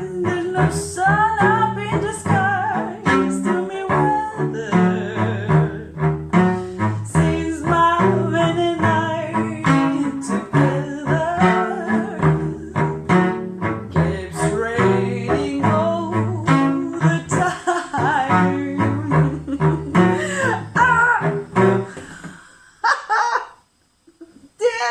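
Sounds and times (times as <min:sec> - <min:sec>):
plucked string accompaniment: 0:00.0 - 0:22.0
person singing: 0:00.0 - 0:22.1.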